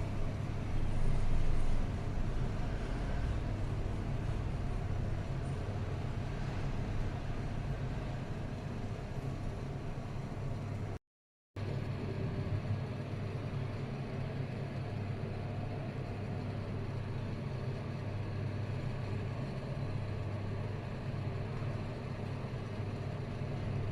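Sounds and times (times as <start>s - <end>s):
low mechanical hum: 0.0s - 11.0s, 11.6s - 23.9s.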